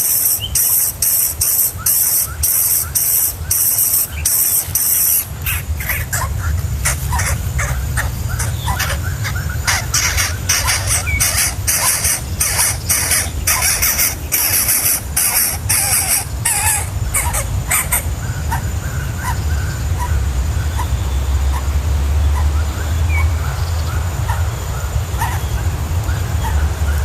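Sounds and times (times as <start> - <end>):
birds giving harsh calls: 0.0 - 27.0
steady low hum: 0.0 - 27.0.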